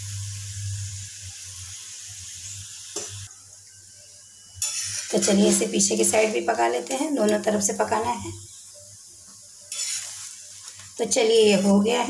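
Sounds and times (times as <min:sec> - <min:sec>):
flatbread sizzling on a griddle: 0:00.0 - 0:12.0.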